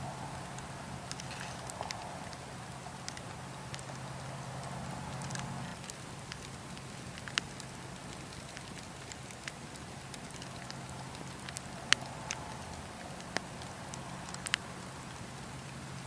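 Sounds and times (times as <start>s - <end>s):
campfire pops: 0.2s - 16.0s.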